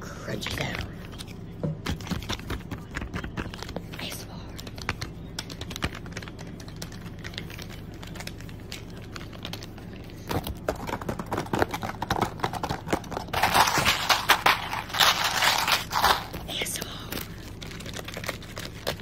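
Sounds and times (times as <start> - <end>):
packet crinkling: 0.4 - 19.0.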